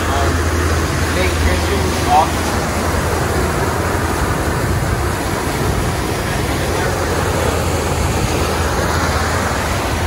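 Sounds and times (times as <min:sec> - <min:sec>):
boat engines droning: 0:00.0 - 0:10.0
wind and water rushing: 0:00.0 - 0:10.0.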